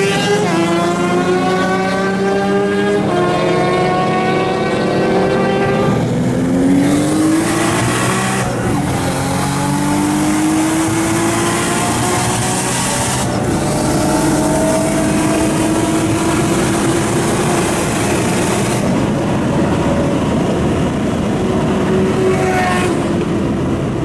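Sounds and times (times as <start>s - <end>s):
car engine accelerating: 0.0s - 24.0s
wind and road noise: 0.0s - 24.0s.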